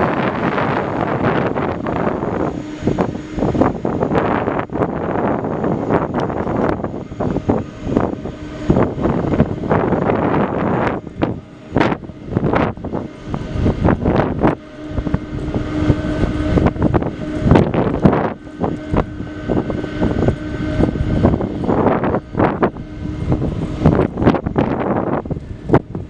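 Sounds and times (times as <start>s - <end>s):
jet engines humming: 0.0s - 26.0s
wind buffeting microphone: 0.0s - 26.0s.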